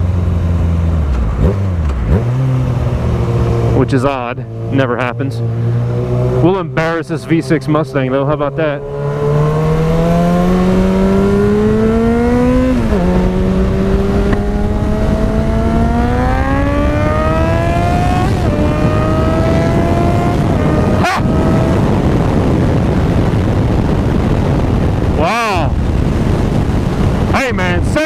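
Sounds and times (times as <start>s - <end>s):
motorcycle engine accelerating: 0.0s - 28.0s
wind noise: 1.4s - 28.0s.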